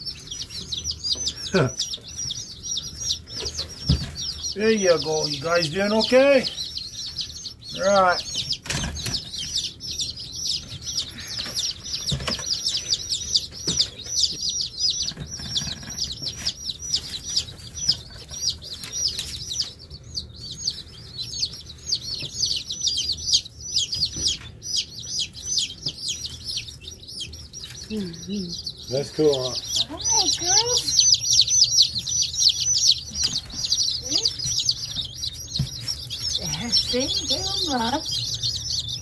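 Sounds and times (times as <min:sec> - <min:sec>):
baby chicks peeping: 0:00.0 - 0:39.0.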